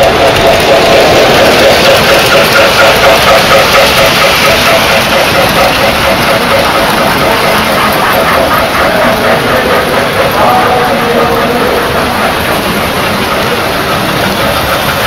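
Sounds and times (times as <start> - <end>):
model train motors rumbling and whining: 0.0 - 15.0.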